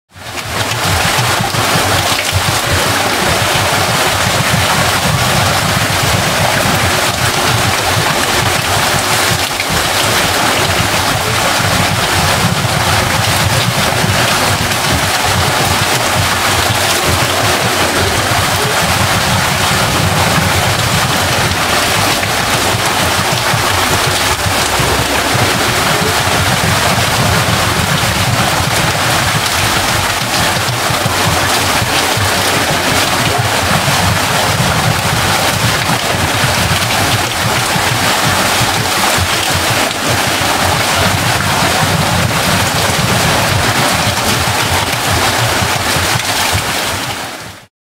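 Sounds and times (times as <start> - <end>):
water pouring at mill wheel: 0.1 - 47.6.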